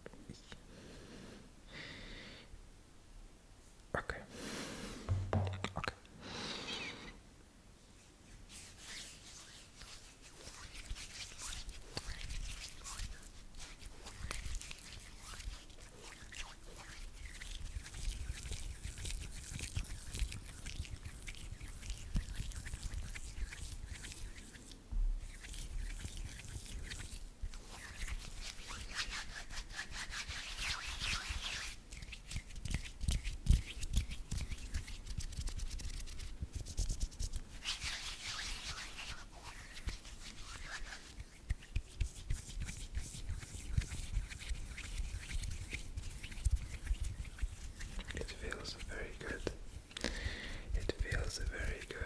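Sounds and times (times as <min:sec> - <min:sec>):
hands rubbing lotion into skin: 0:05.0 - 0:05.9, 0:08.5 - 0:52.0.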